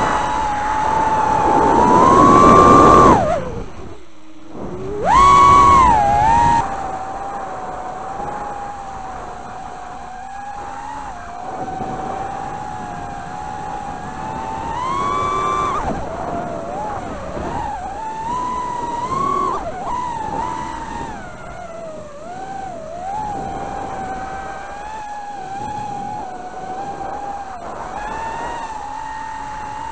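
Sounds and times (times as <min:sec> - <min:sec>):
drone motors whining: 0:00.0 - 0:29.9
wind noise hiss: 0:00.0 - 0:29.9.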